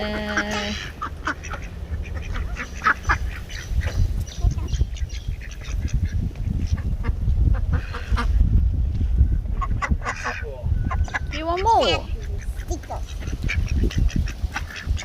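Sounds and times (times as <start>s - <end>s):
ducks quacking: 0.0s - 8.4s, 9.4s - 15.0s
low rumble: 0.0s - 15.0s.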